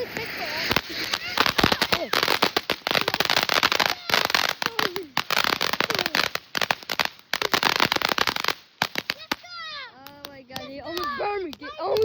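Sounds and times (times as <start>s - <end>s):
firecrackers cracking: 0.0s - 12.0s.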